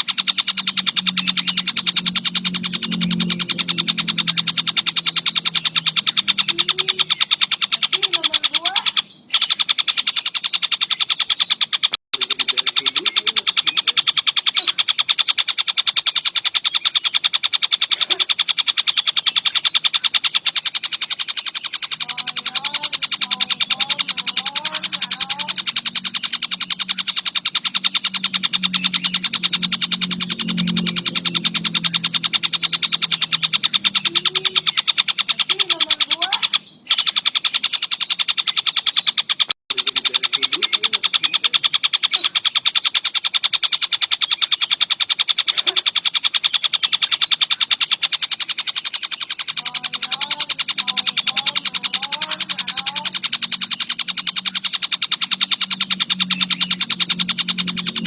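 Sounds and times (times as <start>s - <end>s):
low hum: 0.0s - 38.5s, 39.7s - 58.0s
kingfisher rapid chattering call: 0.0s - 58.0s.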